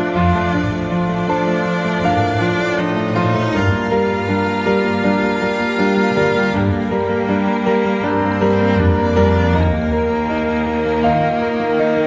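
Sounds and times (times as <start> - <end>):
music of long held chords: 0.0 - 12.0.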